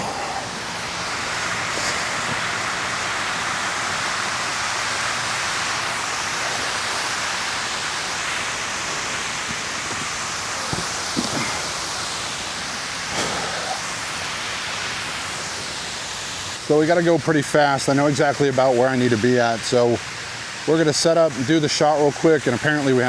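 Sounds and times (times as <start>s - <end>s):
fountain water rushing: 0.0s - 23.0s.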